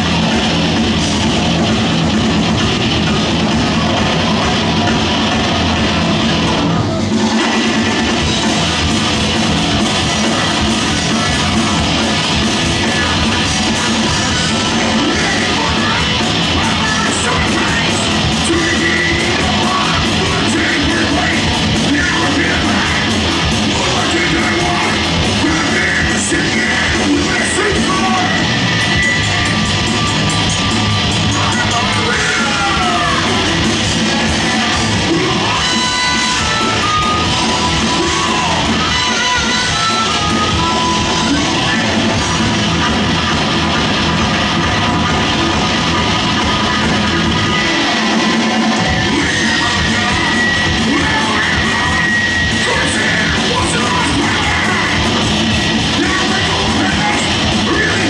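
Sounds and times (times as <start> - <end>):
heavy metal band playing: 0.0 - 58.0
singer yelling: 3.3 - 58.0.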